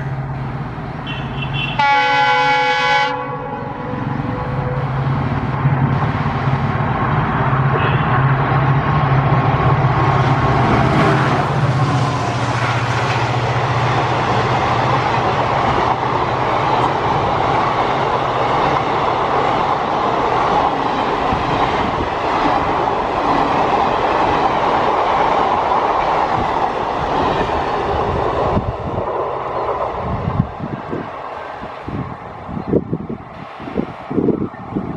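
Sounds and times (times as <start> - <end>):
train passing at speed: 0.0 - 34.9.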